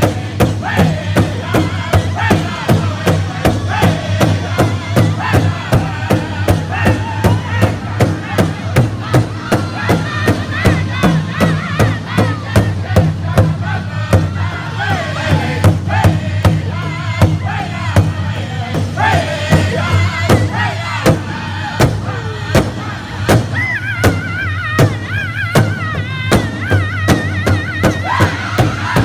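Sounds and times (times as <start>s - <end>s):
large hand drum beating: 0.0s - 29.0s
voices chanting together: 0.0s - 29.0s.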